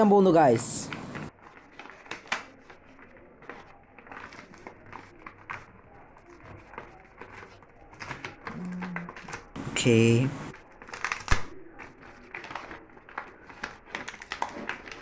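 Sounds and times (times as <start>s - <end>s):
wrapping crinkling and rustling: 1.2s - 9.6s, 10.5s - 15.0s.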